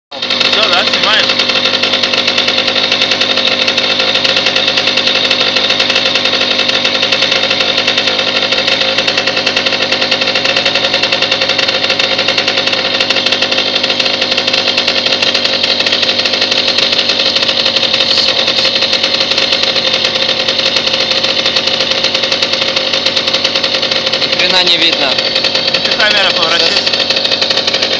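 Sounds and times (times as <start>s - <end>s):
moped engine running: 0.1s - 27.9s.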